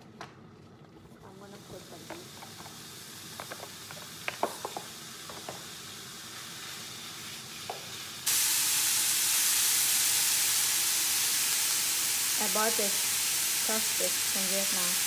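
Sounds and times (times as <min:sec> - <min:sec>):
hot pan hissing: 0:01.4 - 0:15.0
meat sizzling in a frying pan: 0:01.6 - 0:15.0.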